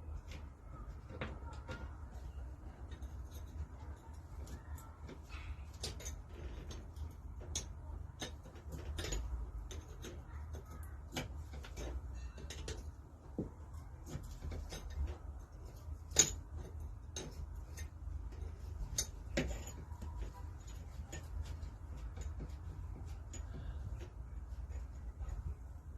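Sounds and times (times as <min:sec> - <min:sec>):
metal tools clinking: 0:00.9 - 0:25.8.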